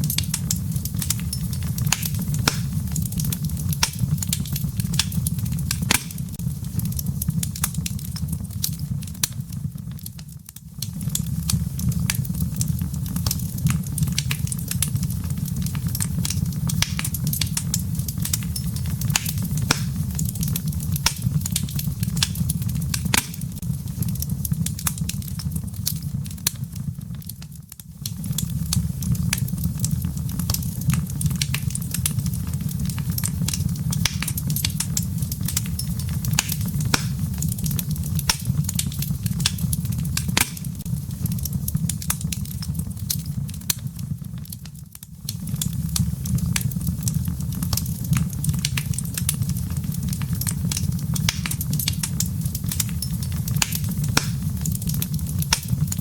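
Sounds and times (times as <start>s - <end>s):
fire rumbling: 0.0s - 56.0s
firewood crackling and popping: 0.0s - 56.0s.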